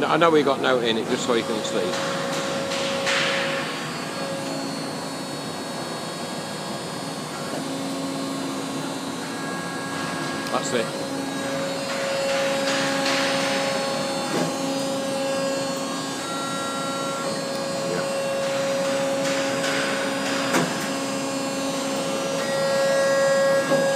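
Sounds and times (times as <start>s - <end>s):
hydraulic motor and pump whine: 0.0s - 23.9s.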